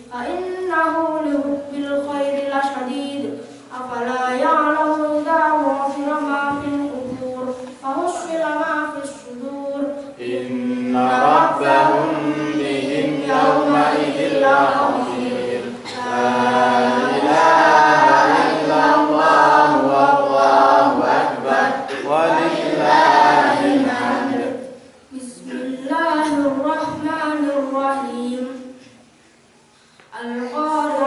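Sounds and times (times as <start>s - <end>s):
boy chanting into microphone: 0.0s - 28.8s.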